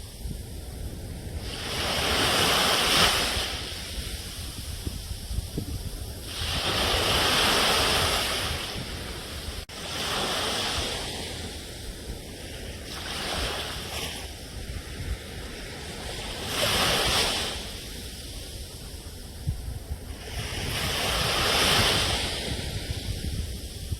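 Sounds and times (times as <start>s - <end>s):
sea waves breaking on shore: 0.0s - 23.9s.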